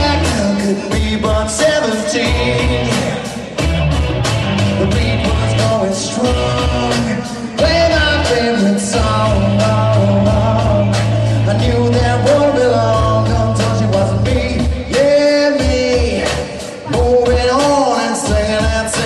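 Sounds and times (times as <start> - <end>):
rock and roll song: 0.0 - 19.0.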